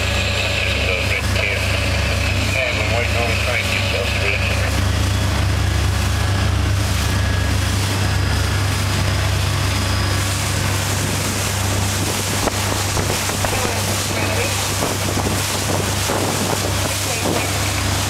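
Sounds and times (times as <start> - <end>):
boat diesel engine droning: 0.0 - 18.0
rush of wind and water: 0.0 - 18.0.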